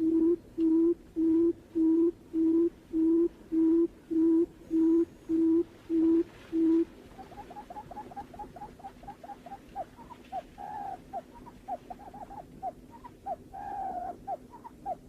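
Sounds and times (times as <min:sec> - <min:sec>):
bird low booming hoots: 0:00.0 - 0:15.0.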